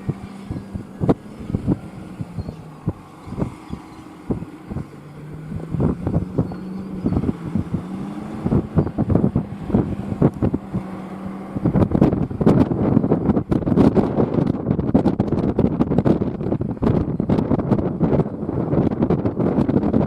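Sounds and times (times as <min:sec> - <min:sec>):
tractor diesel engine under load: 0:00.0 - 0:20.0
wind buffeting microphone: 0:00.0 - 0:20.0.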